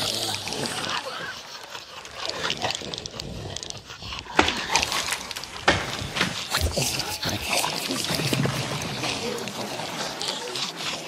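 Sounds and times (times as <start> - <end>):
spiders clicking and chittering: 0.0 - 11.0.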